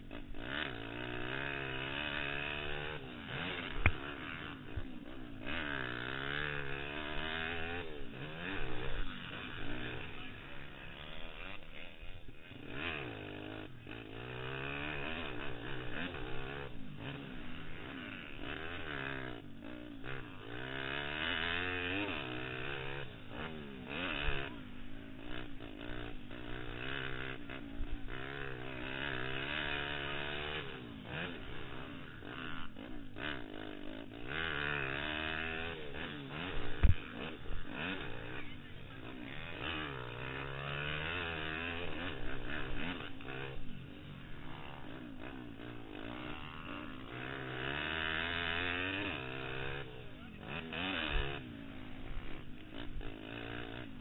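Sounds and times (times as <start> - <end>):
pit bike engine revving: 0.0 - 54.0.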